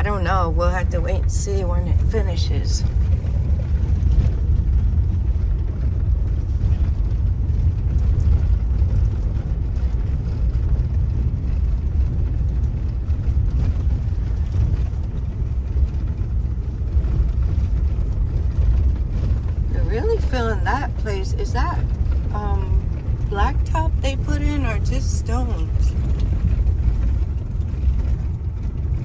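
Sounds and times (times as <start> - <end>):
car driving on rough road: 0.0 - 29.0.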